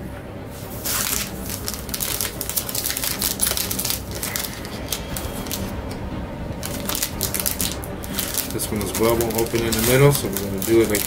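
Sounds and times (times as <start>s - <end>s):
foil wrapper crinkling: 0.6s - 5.9s, 6.6s - 11.0s.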